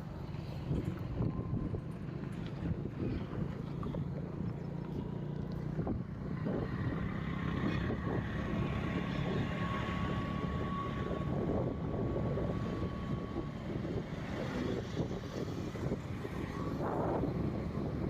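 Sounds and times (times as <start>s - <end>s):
vehicle engine and road rumble: 0.0s - 18.0s
wind on microphone: 0.0s - 18.0s.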